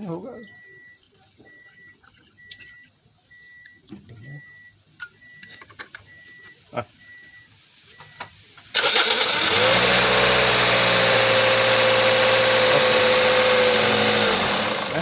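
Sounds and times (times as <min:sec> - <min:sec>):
car engine starting and idling: 0:00.3 - 0:15.0.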